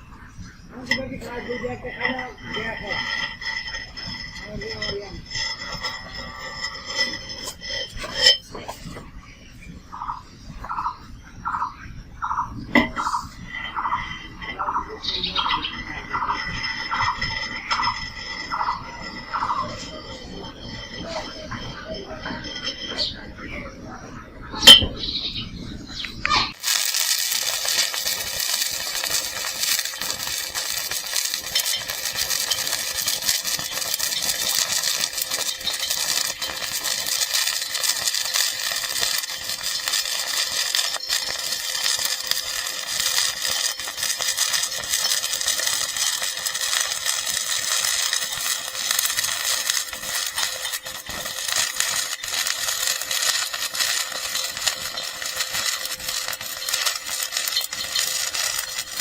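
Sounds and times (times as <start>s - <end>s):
welding arc crackling and sizzling: 0.0s - 9.1s, 9.7s - 23.6s, 26.2s - 59.0s.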